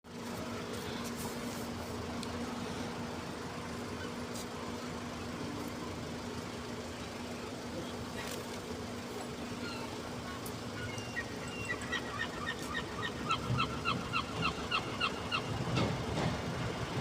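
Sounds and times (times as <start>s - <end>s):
train engine drone: 0.1s - 17.0s.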